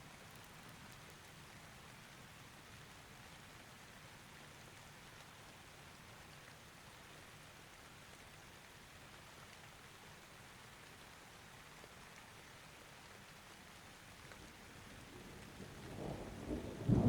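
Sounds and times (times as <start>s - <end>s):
faint steady rain: 0.0s - 17.0s.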